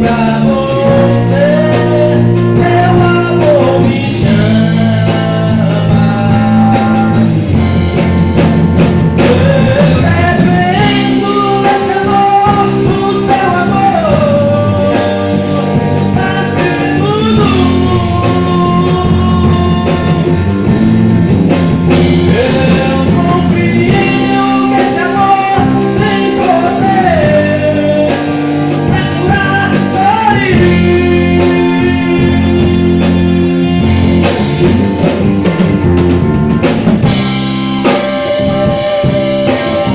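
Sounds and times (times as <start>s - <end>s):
bass guitar: 0.0s - 39.9s
drum kit: 0.0s - 39.9s
guitar: 0.0s - 39.9s.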